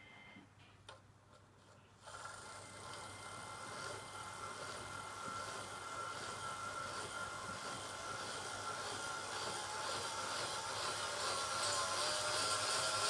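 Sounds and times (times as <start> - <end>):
model train motor whine: 2.0 - 13.0.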